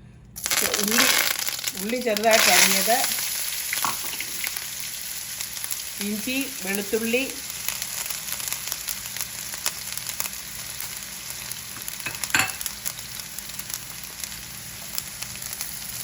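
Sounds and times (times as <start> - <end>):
vegetables sizzling in hot oil: 0.4 - 16.0.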